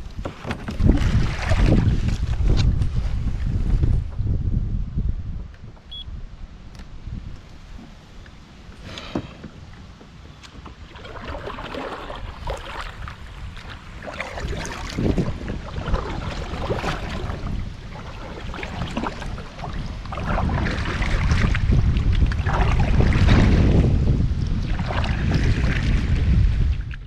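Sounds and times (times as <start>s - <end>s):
water lapping against kayak: 0.0s - 4.6s, 7.2s - 27.0s
wind buffeting microphone: 0.0s - 8.8s, 10.6s - 27.0s.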